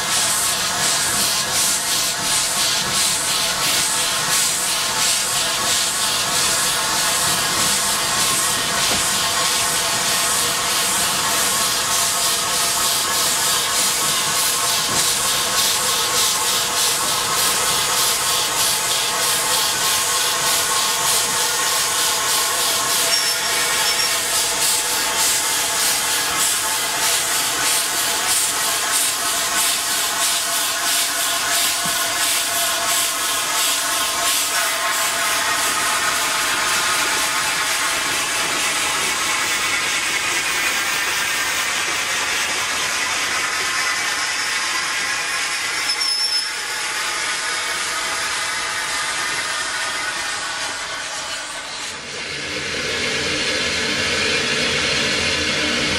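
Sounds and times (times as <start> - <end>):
steam hissing: 0.0 - 55.9
steam locomotive exhaust chuffing: 0.0 - 55.9.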